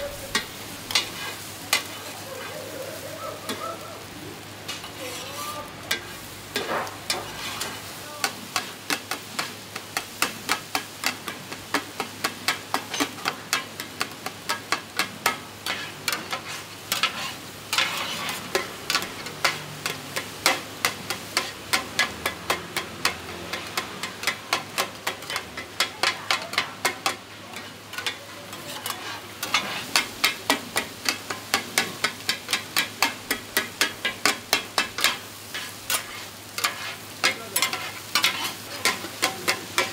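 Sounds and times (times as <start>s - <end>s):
eggs sizzling: 0.0s - 39.9s
metal spatula clacking on pan: 0.3s - 1.9s, 5.9s - 39.9s.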